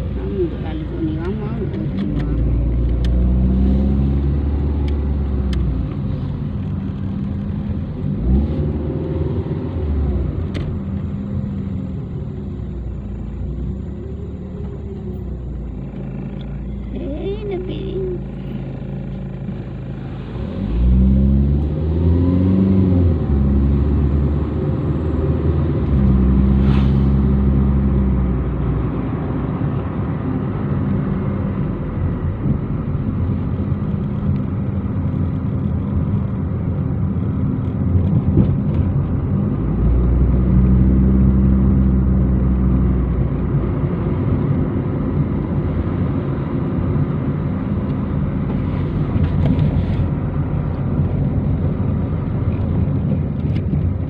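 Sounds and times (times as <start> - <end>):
car engine drone: 0.0 - 54.0.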